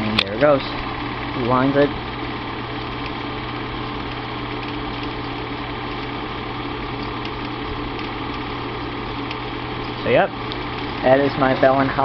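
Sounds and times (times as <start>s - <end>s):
film projector motor whir: 0.0s - 12.0s.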